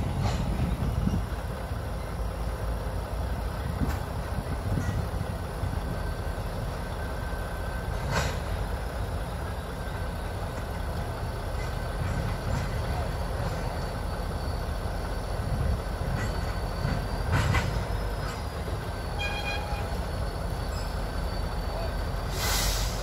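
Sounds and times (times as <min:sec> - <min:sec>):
diesel locomotive rumbling: 0:00.0 - 0:23.0.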